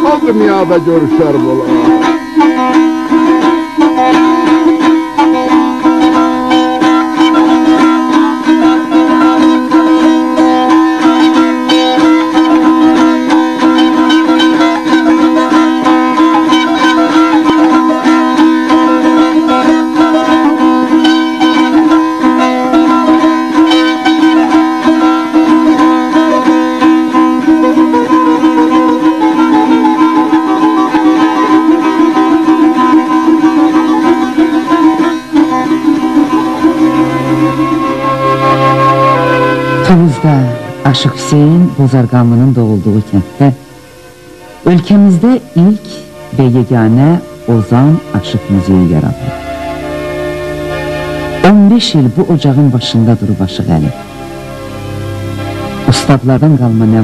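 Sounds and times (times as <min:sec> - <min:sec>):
plucked lute melody with drone: 0:00.0 - 0:57.0.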